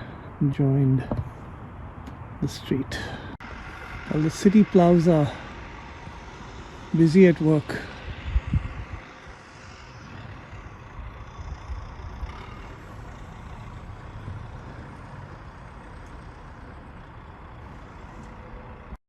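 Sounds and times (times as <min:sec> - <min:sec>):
snowplow truck running: 0:02.4 - 0:19.0.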